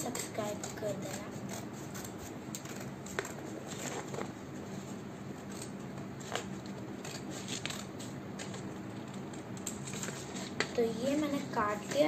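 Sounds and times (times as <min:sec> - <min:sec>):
scissors snipping paper: 0:00.0 - 0:04.3, 0:05.4 - 0:10.8
steady low hum: 0:00.0 - 0:12.0.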